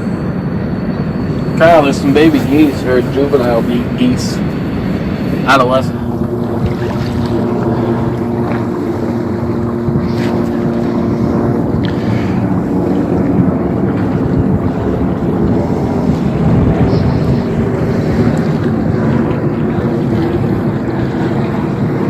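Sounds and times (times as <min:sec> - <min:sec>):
boat engine running: 0:00.0 - 0:22.0
wind buffeting microphone: 0:00.0 - 0:22.0.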